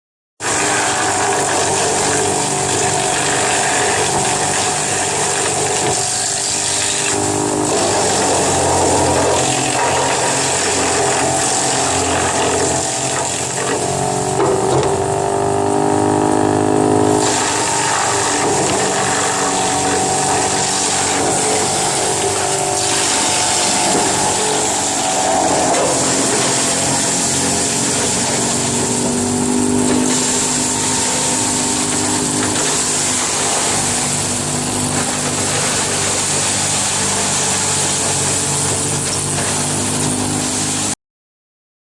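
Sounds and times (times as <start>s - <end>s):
wood chipper grinding: 0.4s - 41.0s.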